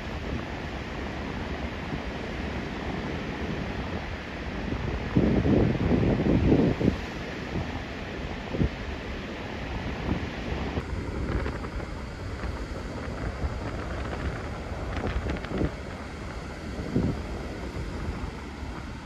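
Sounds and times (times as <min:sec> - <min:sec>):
surf breaking on shore: 0:00.0 - 0:19.0
wind buffeting microphone: 0:00.0 - 0:19.0.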